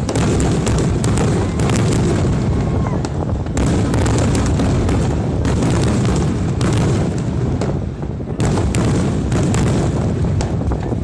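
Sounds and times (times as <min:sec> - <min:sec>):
continuous low rumble: 0:00.0 - 0:11.0
firework shells booming: 0:00.0 - 0:11.0.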